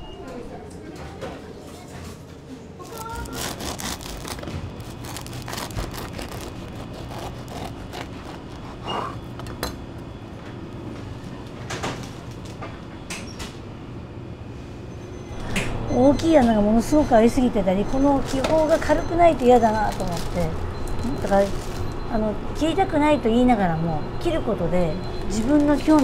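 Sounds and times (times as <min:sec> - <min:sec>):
low hum of equipment: 0:00.0 - 0:26.0.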